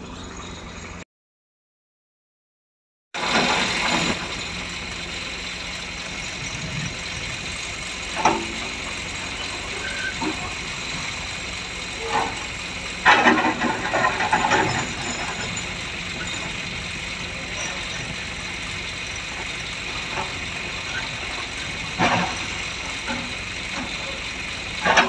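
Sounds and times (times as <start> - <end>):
excavator diesel engine running: 0.0 - 1.0, 3.2 - 25.0.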